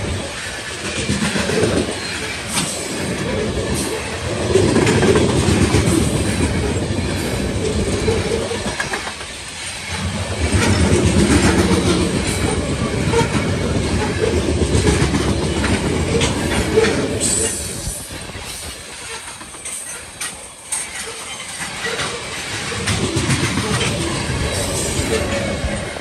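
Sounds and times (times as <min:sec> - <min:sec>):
train wheels clattering over rail joints: 0:00.0 - 0:26.0.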